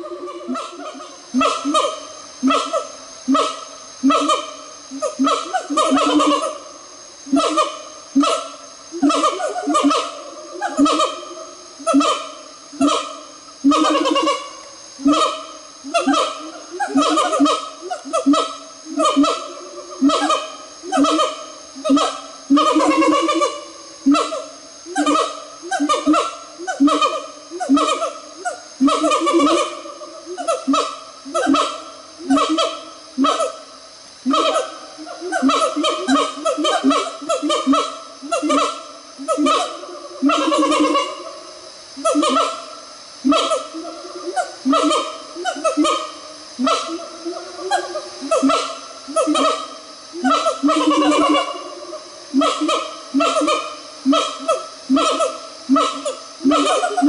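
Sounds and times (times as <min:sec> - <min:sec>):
gibbon calling: 0:00.0 - 0:57.0.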